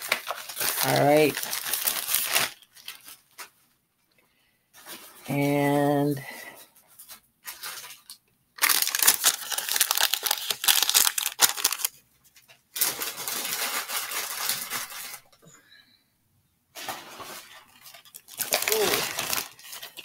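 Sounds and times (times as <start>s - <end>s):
plastic bag rustling: 0.0s - 3.8s, 6.4s - 15.4s, 16.7s - 20.0s.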